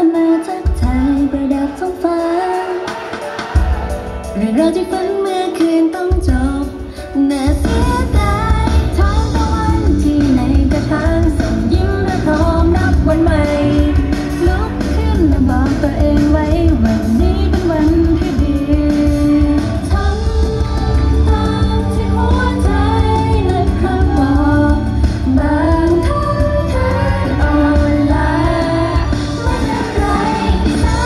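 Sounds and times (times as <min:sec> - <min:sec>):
lead singer singing: 0:00.0 - 0:31.0
live band playing: 0:00.0 - 0:31.0.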